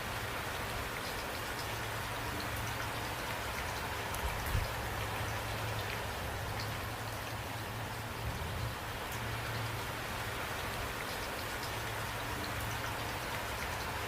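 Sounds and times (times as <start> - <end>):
raindrops ticking: 0.0 - 14.0
steady rain falling: 0.0 - 14.0.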